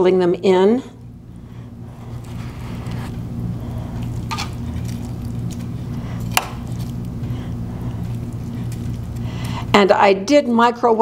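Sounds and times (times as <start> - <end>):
low hum and faint hiss: 0.0 - 11.0.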